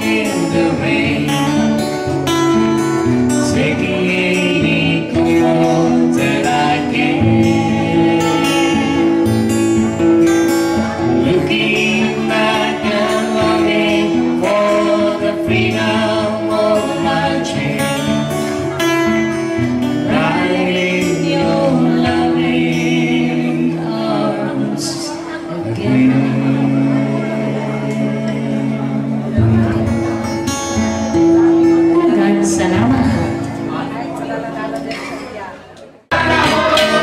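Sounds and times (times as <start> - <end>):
people singing long notes: 0.0 - 30.0, 36.1 - 37.0
strummed acoustic guitar: 0.0 - 37.0.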